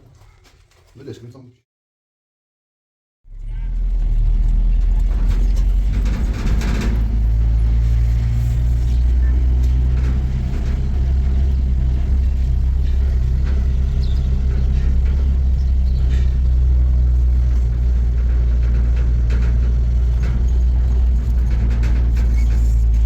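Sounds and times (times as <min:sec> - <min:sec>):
vehicle engine running: 0:03.3 - 0:23.0.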